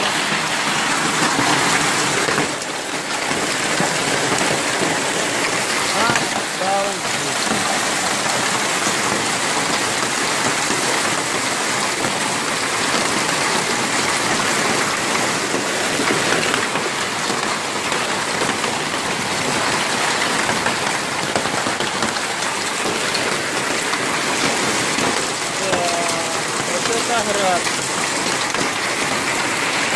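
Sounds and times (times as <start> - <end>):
hail and rain hitting roofs: 0.0 - 29.9.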